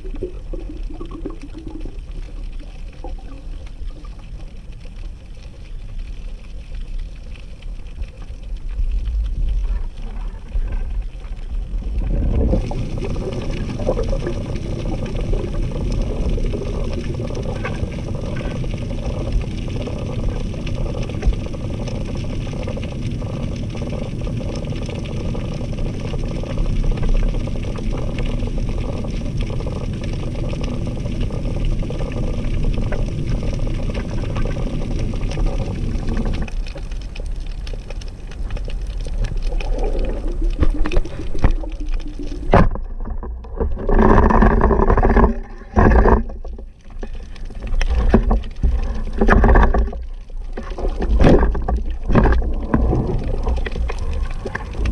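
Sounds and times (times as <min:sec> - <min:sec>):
underwater rushing: 0:00.0 - 0:54.9
water gurgling and sloshing: 0:00.0 - 0:54.9.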